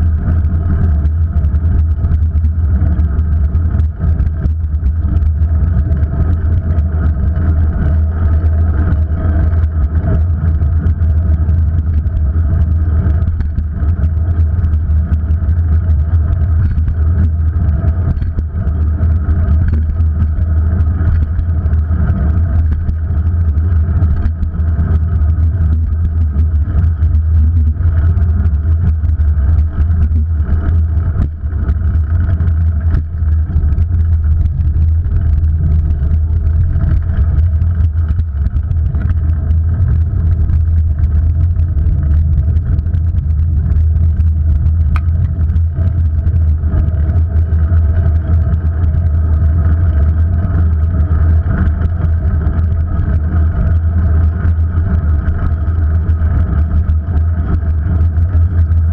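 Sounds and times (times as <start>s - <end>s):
vehicle and road rumble: 0.0s - 58.9s.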